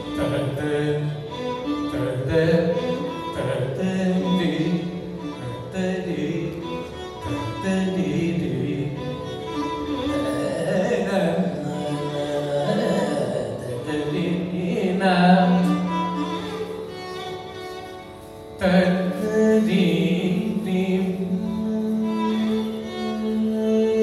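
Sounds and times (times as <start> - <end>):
man singing: 0.0 - 16.5, 18.6 - 24.0
violin: 0.0 - 24.0.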